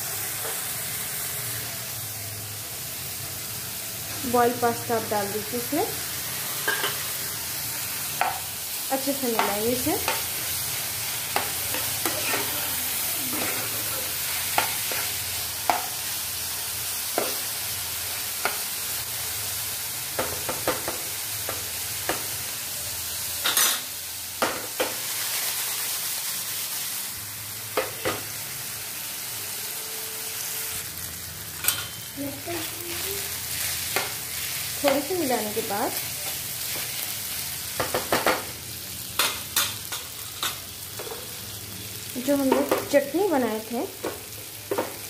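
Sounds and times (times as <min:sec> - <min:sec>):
food sizzling in hot oil: 0:00.0 - 0:45.0.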